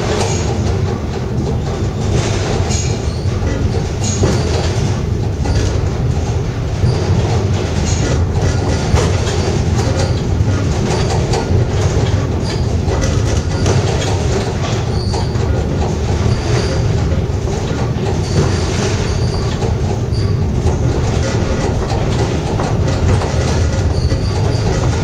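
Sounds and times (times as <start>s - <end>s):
wheels rumbling on track: 0.0s - 25.0s.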